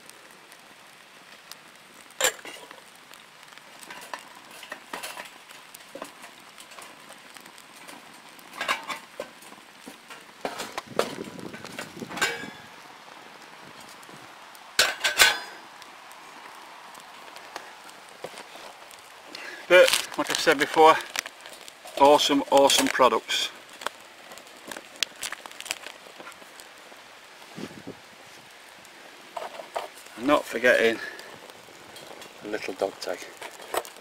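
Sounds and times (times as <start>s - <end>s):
stove fire hissing: 0.0s - 34.0s.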